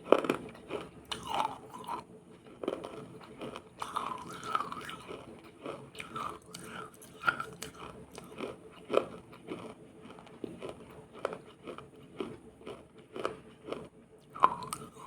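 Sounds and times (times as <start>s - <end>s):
crunchy biting and chewing: 0.0s - 15.0s.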